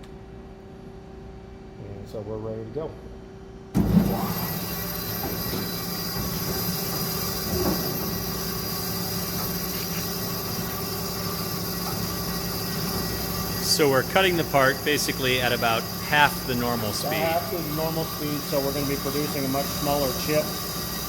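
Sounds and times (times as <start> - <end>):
band saw cutting steel: 3.9 - 21.0.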